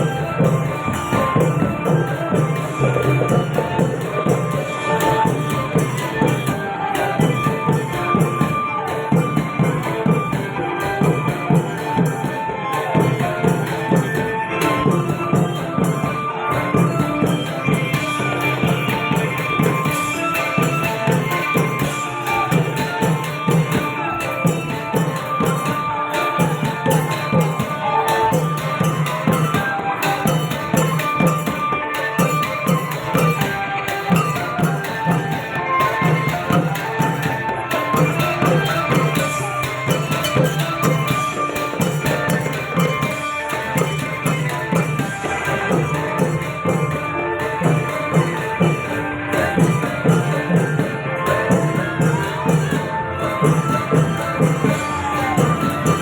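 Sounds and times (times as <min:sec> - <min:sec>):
long-drum ensemble playing: 0:00.0 - 0:56.0
ringing metal percussion: 0:00.0 - 0:56.0
small cymbals jingling: 0:00.0 - 0:56.0.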